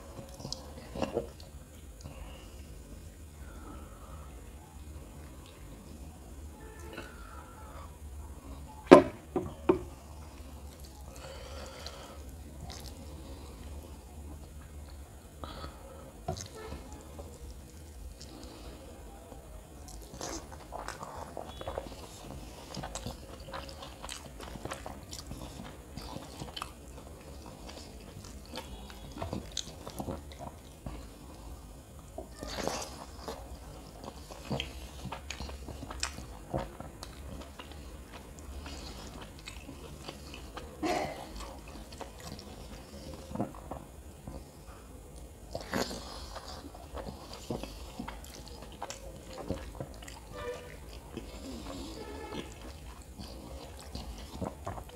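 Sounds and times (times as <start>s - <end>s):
chewing and wet mouth sounds: 0.0s - 6.2s, 9.5s - 54.9s.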